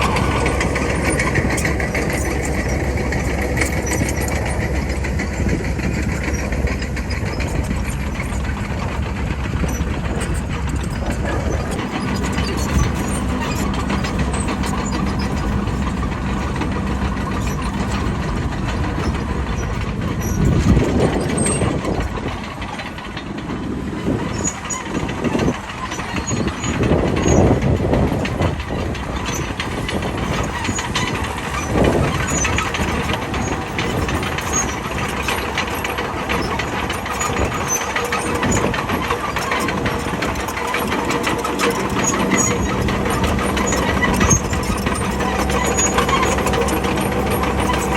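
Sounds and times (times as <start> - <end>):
bulldozer diesel engine working: 0.0 - 47.9.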